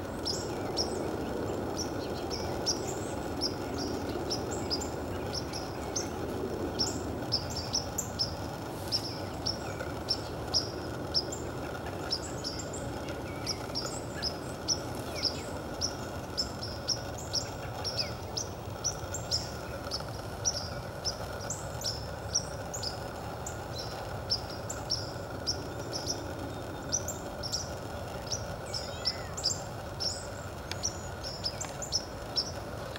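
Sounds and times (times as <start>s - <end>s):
low background rumble: 0.0s - 32.9s
small bird chip calls: 0.0s - 32.9s.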